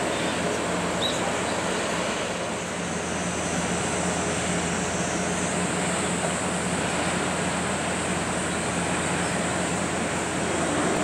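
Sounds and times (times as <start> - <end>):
ship diesel engine drone: 0.0 - 11.0.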